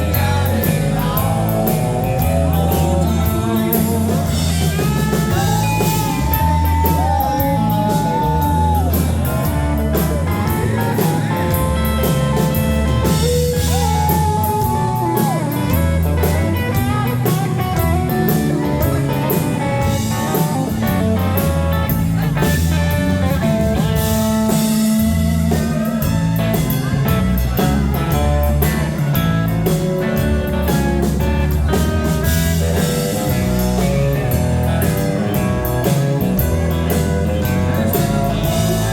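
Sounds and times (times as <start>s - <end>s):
live country-rock band: 0.0s - 38.9s.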